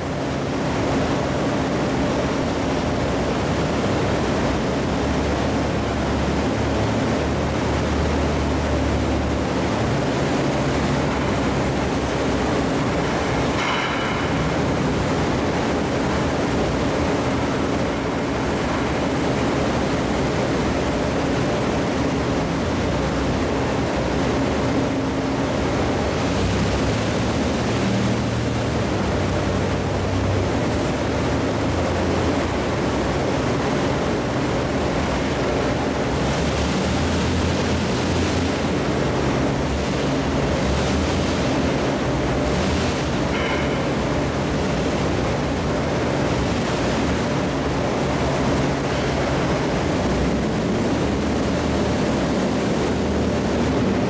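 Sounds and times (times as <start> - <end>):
heavy machinery humming and droning: 0.0 - 54.0.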